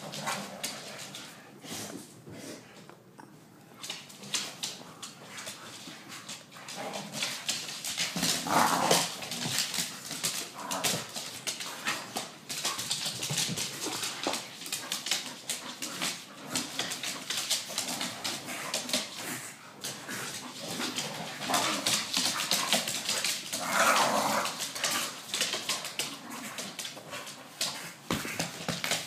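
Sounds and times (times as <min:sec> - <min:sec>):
claws clicking on hardwood floor: 0:03.8 - 0:29.0.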